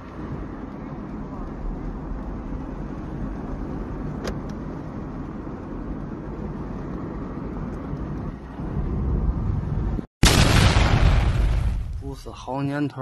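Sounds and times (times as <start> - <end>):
car road and engine rumble: 0.0 - 12.5.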